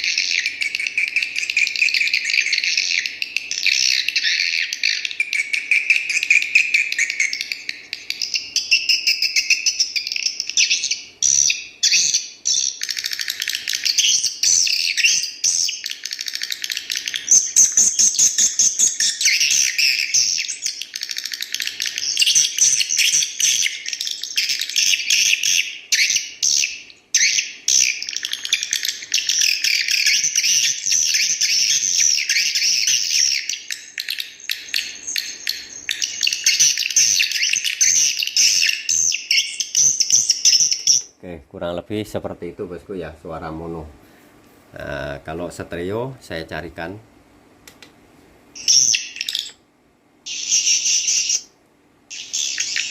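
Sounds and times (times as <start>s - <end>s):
chorus of bird chirps: 0.0s - 41.3s, 48.5s - 49.6s, 50.2s - 52.9s.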